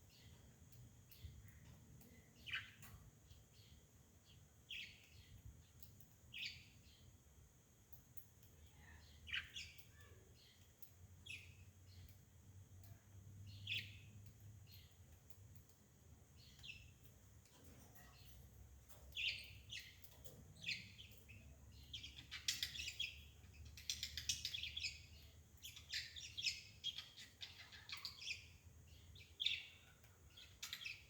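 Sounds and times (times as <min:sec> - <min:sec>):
bird chirping: 0:00.0 - 0:31.0
faint low hum: 0:00.0 - 0:31.0.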